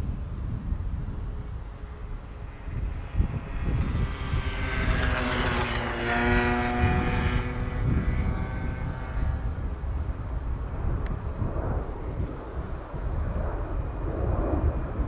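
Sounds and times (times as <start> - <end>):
jet engine whine: 0.0 - 15.0
low rumble: 0.0 - 15.0.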